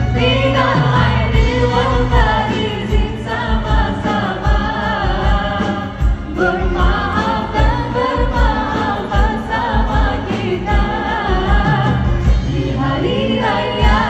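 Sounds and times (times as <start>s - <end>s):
live pop band: 0.0s - 14.0s.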